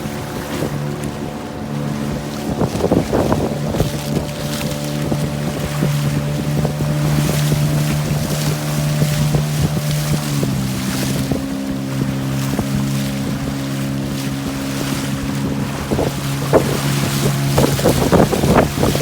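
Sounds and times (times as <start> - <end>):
boat engine running: 0.0 - 19.0
wind on microphone: 0.0 - 19.0.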